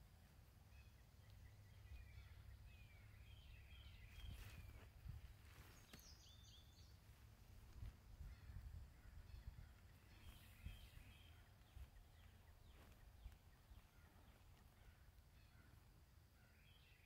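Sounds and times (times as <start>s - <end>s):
faint bird chirps: 0.6s - 17.0s.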